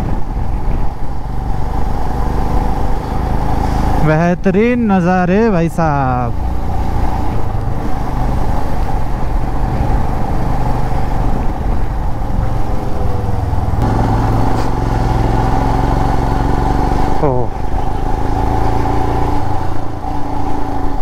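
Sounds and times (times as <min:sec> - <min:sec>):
motorcycle engine running: 0:00.0 - 0:04.2, 0:06.3 - 0:21.0
wind rush: 0:00.0 - 0:21.0.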